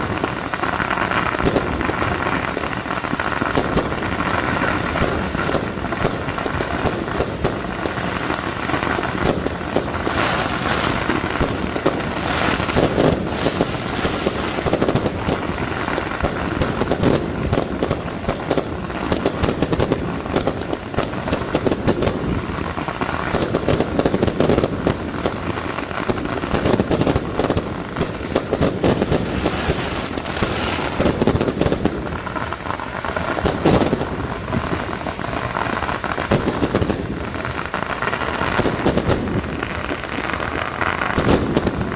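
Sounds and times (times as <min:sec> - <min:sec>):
fireworks crackling and popping: 0:00.0 - 0:41.9.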